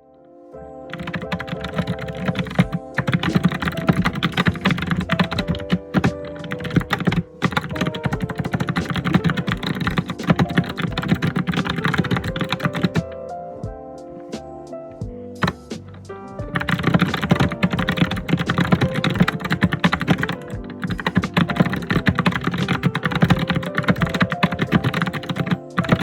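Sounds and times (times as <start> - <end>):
computer keyboard typing: 0.9 - 13.1, 15.4 - 15.9, 16.5 - 26.0.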